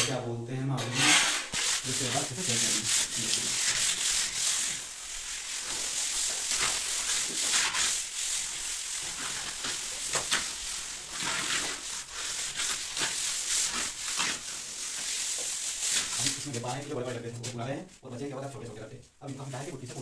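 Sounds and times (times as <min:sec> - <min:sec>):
wooden straightedge scraping plaster: 0:00.8 - 0:16.9.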